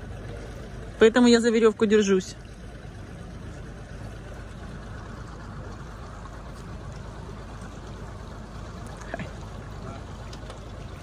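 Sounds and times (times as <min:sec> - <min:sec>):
boat engine rumble: 0:00.0 - 0:11.0
water rushing: 0:00.0 - 0:11.0.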